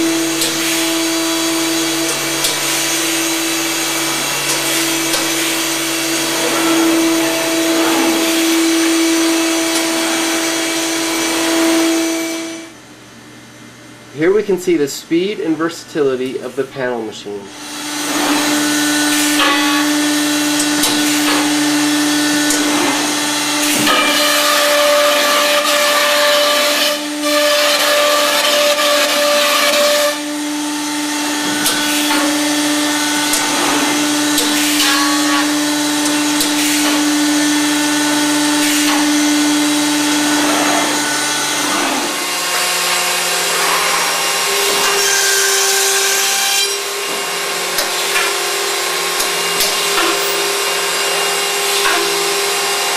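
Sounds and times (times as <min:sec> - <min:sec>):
router cutting particleboard: 0:00.0 - 0:12.6, 0:17.6 - 0:52.9
machine spindles whining: 0:00.0 - 0:12.8, 0:17.5 - 0:52.9.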